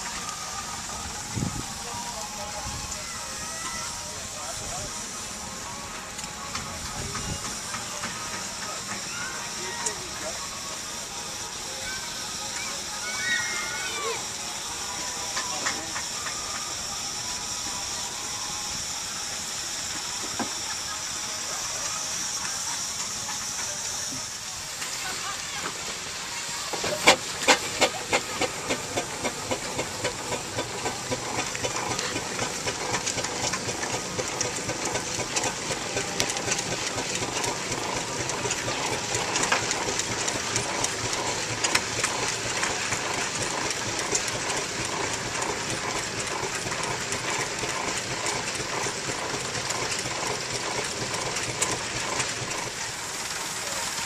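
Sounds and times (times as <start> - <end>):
steam engine exhaust chuffs: 0.0 - 54.0
steam hissing: 0.0 - 54.0.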